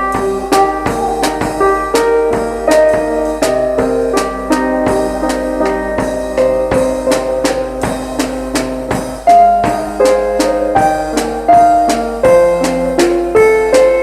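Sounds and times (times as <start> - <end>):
drum kit beat: 0.0 - 14.0
keyboard playing chords: 0.0 - 14.0.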